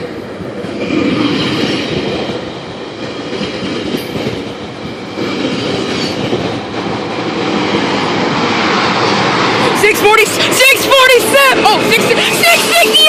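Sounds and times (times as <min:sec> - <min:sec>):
passenger train rumbling past: 0:00.0 - 0:13.0.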